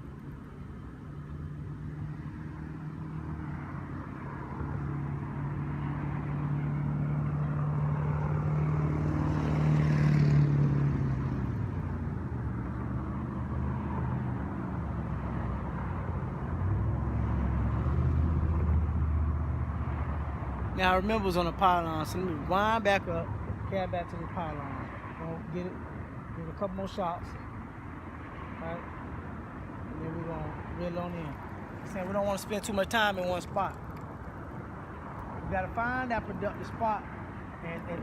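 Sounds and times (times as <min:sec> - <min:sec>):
vehicle engine hum passing: 0:00.0 - 0:38.0.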